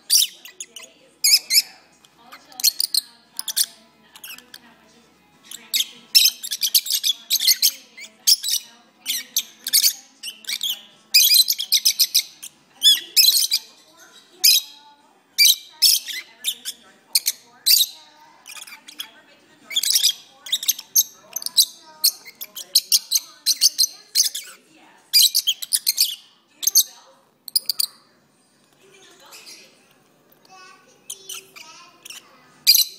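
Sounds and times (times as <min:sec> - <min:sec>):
lovebirds chirping and squeaking: 0:00.0 - 0:32.9.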